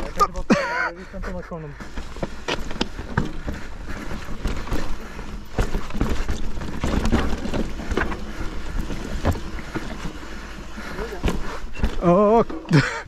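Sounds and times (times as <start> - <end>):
bike knocking and rattling: 1.8 - 13.0.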